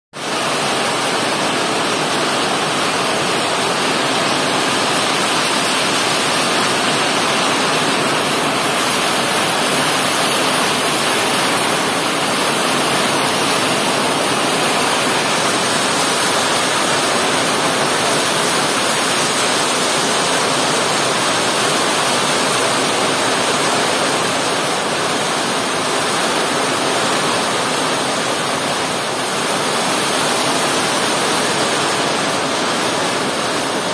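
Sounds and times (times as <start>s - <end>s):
heavy rain on leaves: 0.2s - 33.9s.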